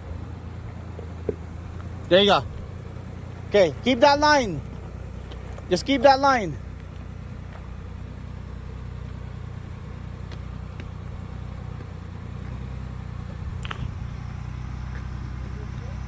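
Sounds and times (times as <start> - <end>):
engine running at low revs: 0.0 - 16.0.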